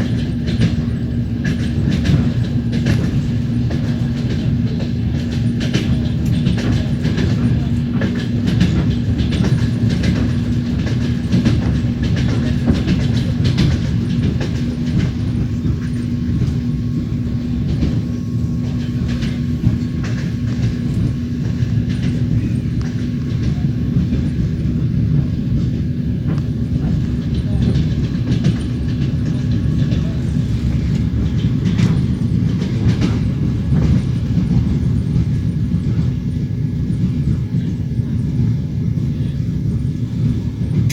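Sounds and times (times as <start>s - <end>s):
steady low hum: 0.0s - 40.9s
train wheels clattering on rails: 0.0s - 40.9s.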